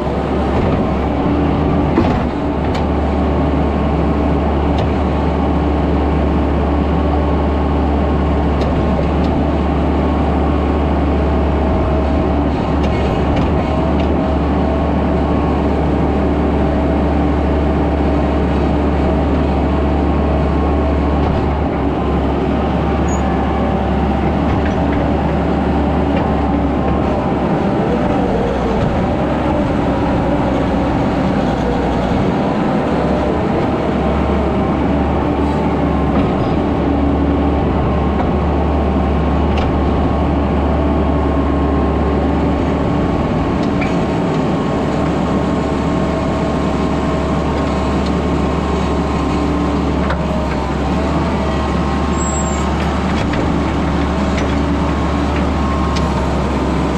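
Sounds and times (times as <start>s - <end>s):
skid steer engine running: 0.0s - 56.9s.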